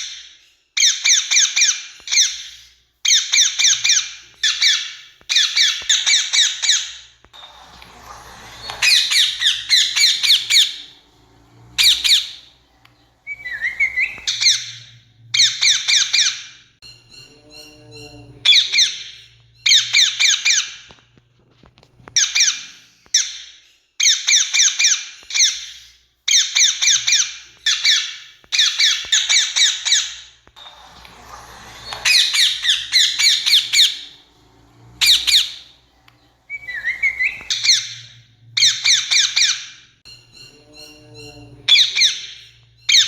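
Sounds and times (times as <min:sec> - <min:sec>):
fainter lower bird call: 0:00.8 - 0:20.7, 0:26.3 - 0:43.0
parakeet screeching: 0:00.8 - 0:20.9, 0:24.0 - 0:43.0.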